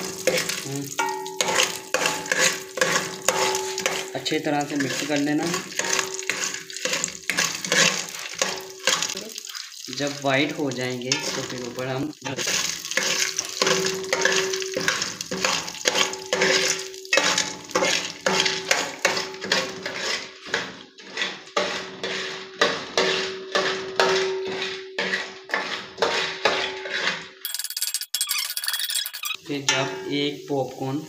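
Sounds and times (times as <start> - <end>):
metal spoon scraping kernels in pot: 0.0 - 10.1, 10.7 - 29.8.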